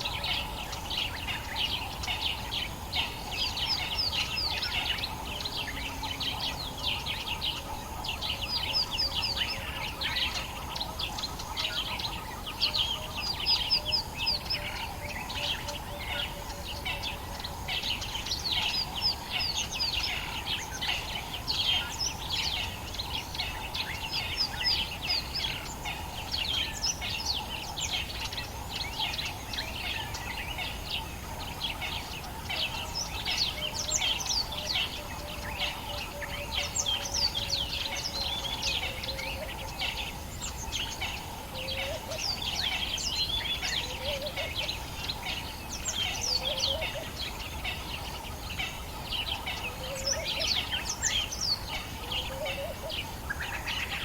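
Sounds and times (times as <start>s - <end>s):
many birds chirping: 0.0s - 54.0s.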